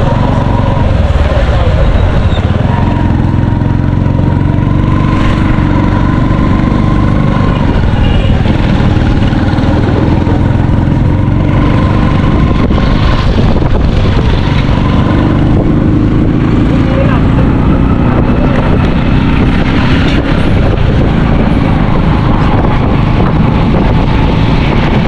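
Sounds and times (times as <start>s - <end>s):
traffic and road noise: 0.0s - 25.0s
vehicle engine running: 0.0s - 25.0s.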